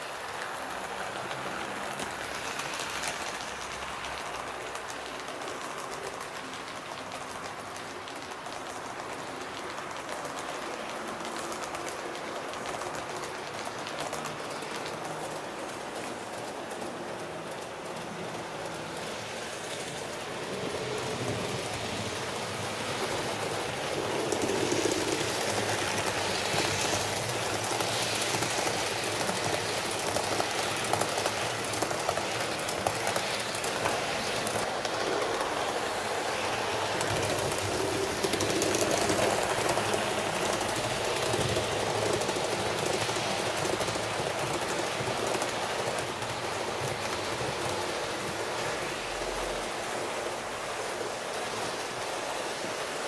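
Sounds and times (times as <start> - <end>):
model train wheels rattling on rails: 0.0 - 53.0.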